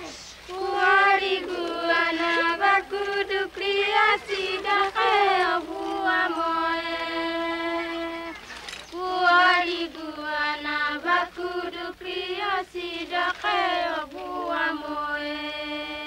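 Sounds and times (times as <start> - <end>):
women singing a chant together: 0.0 - 16.0.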